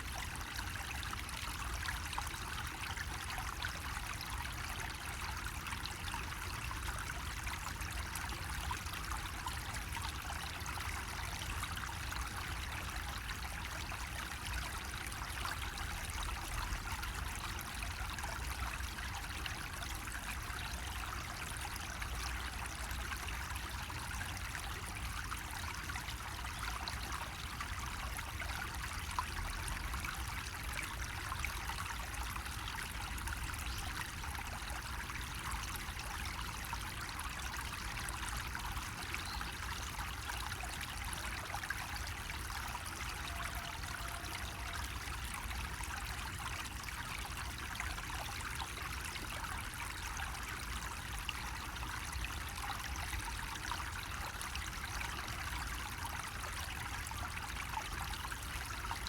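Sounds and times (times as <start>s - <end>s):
water trickling from a faucet: 0.0s - 59.0s.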